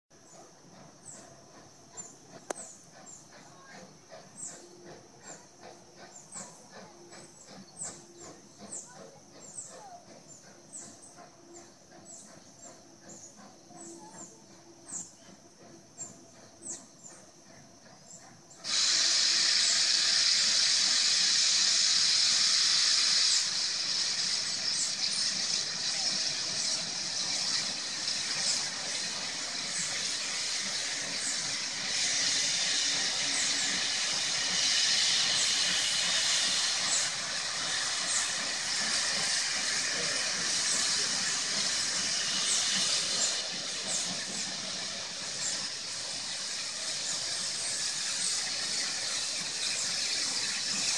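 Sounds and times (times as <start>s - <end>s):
steam locomotive venting steam: 0.1s - 50.9s.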